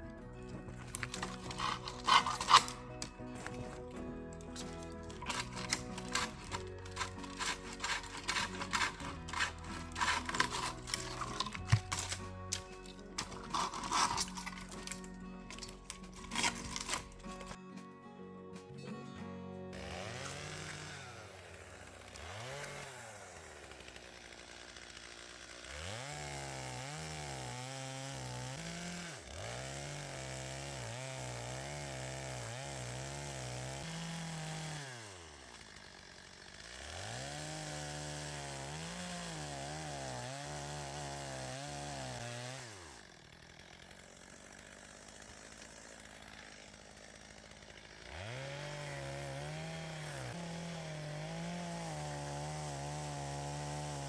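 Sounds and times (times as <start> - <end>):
chainsaw revving: 0.0 - 17.6, 19.7 - 54.0.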